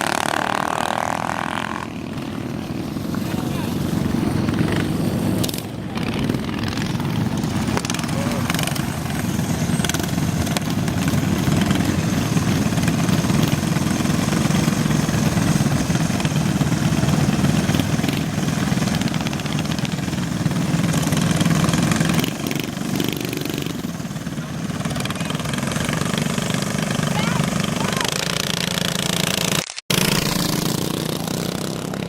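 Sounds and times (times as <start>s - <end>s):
minibike engines running: 0.0s - 32.0s.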